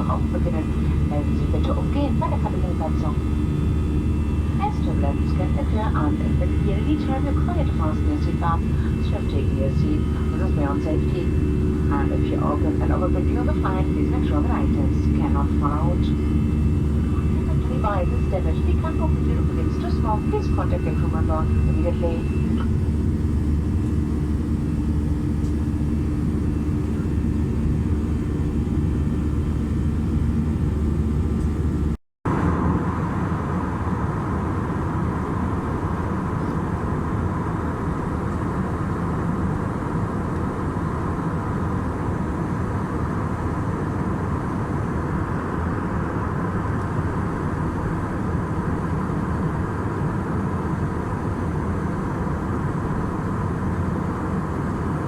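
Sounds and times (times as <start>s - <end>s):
airplane cabin engine hum: 0.0s - 55.0s.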